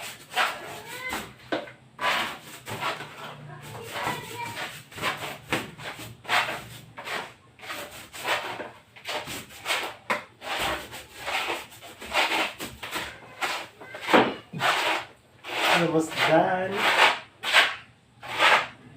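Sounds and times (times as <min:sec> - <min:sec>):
brush swishing on wooden wall: 0:00.0 - 0:18.8.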